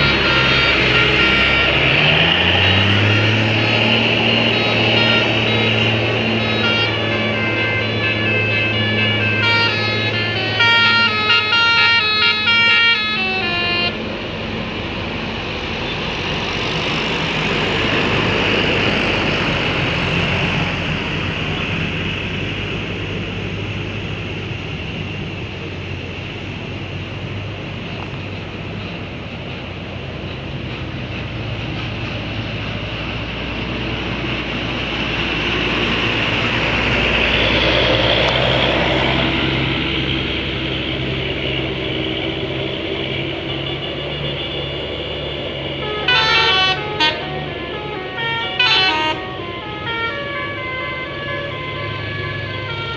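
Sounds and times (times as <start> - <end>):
bus diesel engines running: 0.0 - 52.9
road noise: 0.0 - 52.9.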